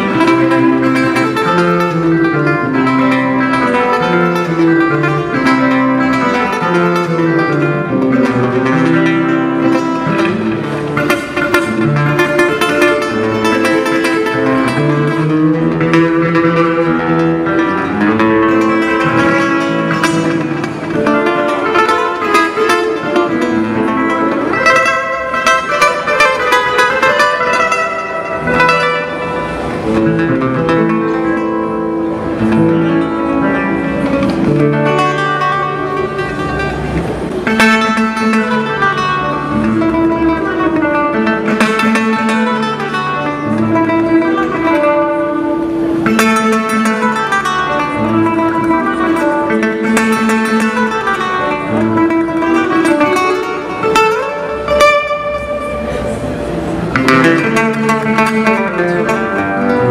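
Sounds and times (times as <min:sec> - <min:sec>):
solo acoustic guitar: 0:00.0 - 0:59.9.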